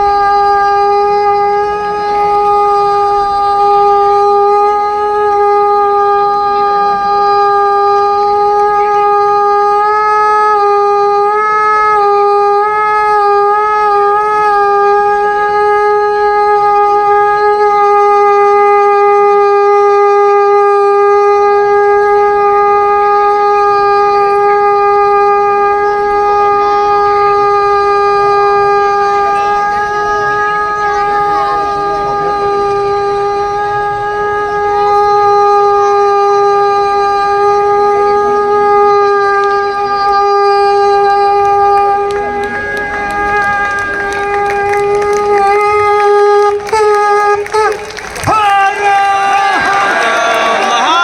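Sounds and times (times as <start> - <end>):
conch shell blown: 0.0 - 51.0.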